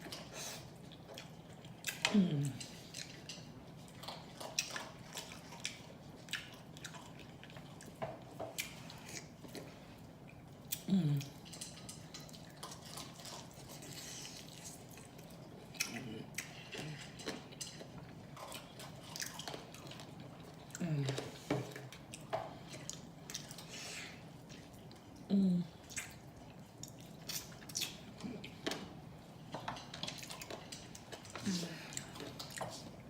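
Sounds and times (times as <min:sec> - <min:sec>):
chewing with lip-smacking: 0:00.0 - 0:33.0.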